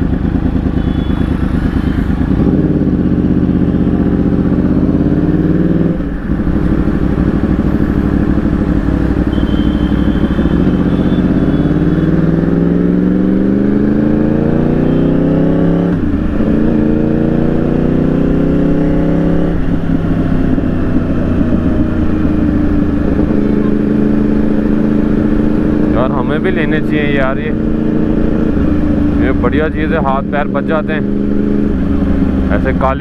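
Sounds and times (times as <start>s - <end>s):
motorcycle engine revving through gears: 0.0s - 33.0s.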